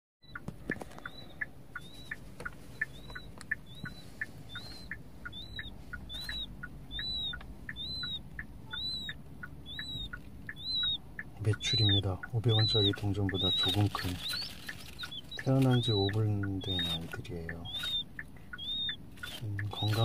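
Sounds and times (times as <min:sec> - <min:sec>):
chicks peeping: 0:00.2 - 0:20.0.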